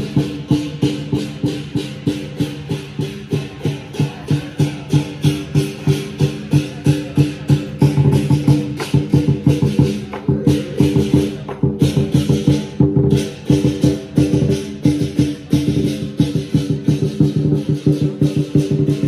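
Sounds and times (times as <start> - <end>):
drum beat: 0.0 - 19.0.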